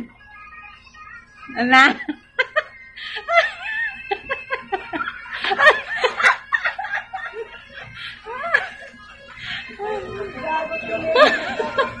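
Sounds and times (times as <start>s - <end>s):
women laughing: 1.8s - 12.0s.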